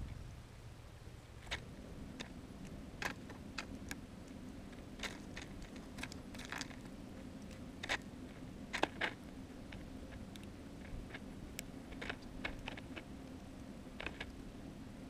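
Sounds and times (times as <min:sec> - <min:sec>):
birds pecking seed: 0:00.0 - 0:15.0.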